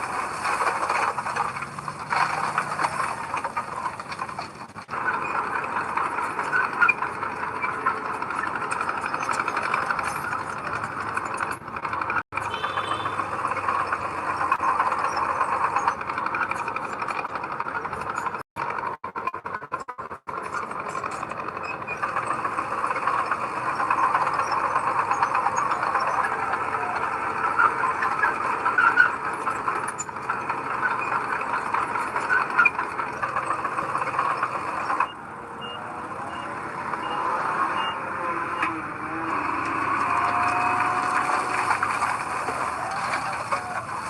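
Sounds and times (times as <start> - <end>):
heavy construction machinery: 0.0 - 44.0.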